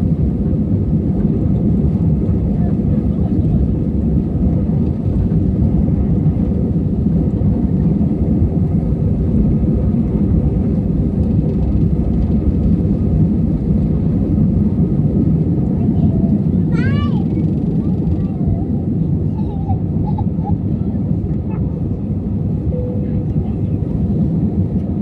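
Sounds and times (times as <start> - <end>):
airliner cabin engine drone: 0.0 - 25.0.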